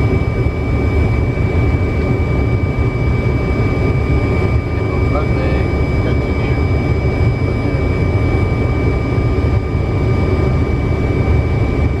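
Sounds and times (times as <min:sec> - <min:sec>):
rumble of engines and airflow: 0:00.0 - 0:12.0.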